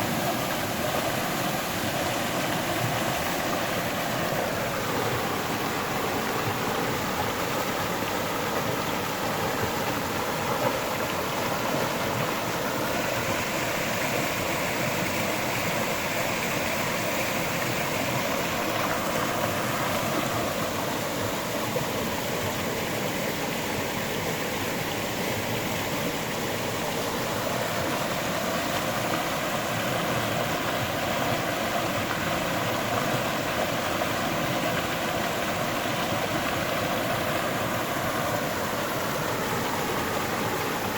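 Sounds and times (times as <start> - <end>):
river flowing over rocks: 0.0 - 40.9.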